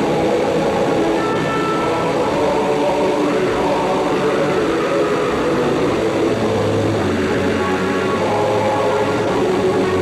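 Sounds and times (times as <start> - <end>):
droning background music: 0.0 - 10.0.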